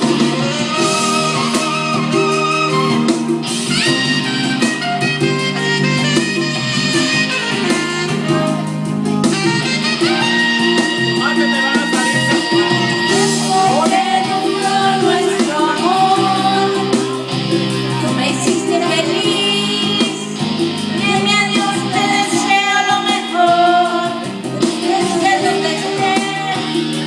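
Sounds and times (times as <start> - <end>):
guitar accompaniment: 0.0 - 27.0
wavering melody line: 0.4 - 22.8.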